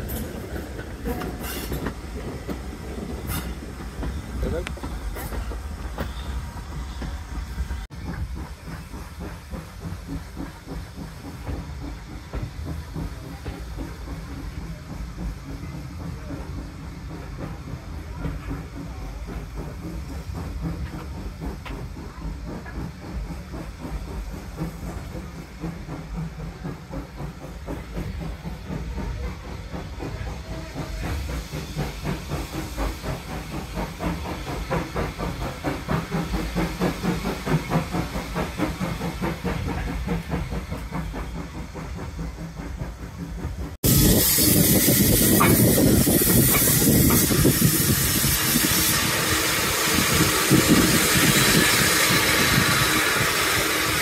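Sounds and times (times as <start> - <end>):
steam hiss: 0.0 - 54.0
steam locomotive exhaust beats: 0.0 - 54.0.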